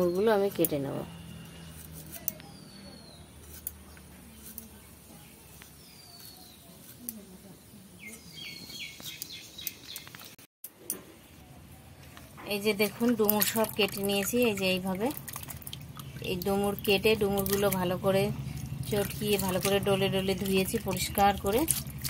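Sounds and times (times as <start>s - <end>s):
birds chirping: 0.0s - 10.4s, 11.1s - 22.0s.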